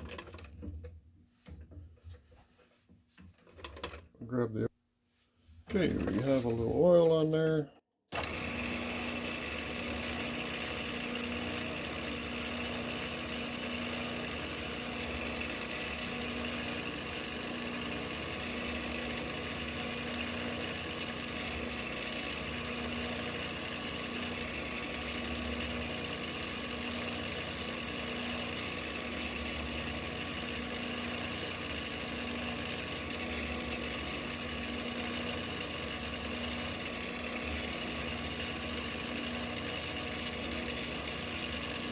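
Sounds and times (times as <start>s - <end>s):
drill motor running: 5.7s - 7.0s, 8.1s - 41.9s.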